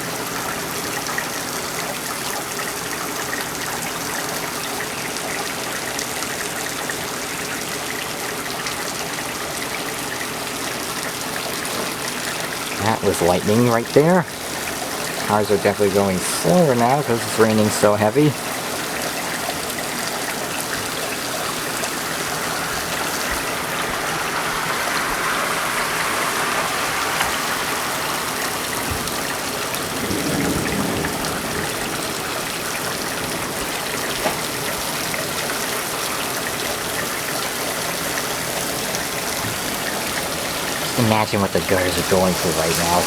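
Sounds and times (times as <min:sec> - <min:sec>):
torrential rain: 0:00.0 - 0:43.0
water pouring off gutters: 0:00.0 - 0:43.0.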